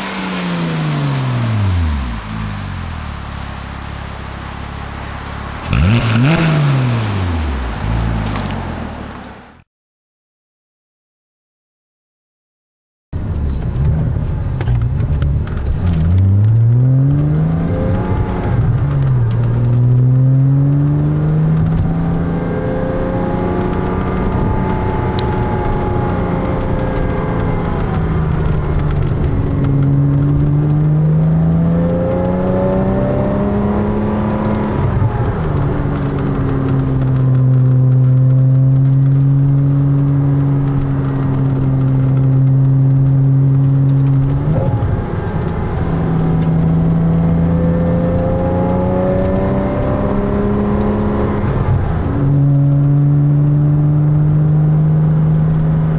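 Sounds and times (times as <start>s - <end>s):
car engine revving and shifting: 0.0s - 9.6s, 13.3s - 55.9s.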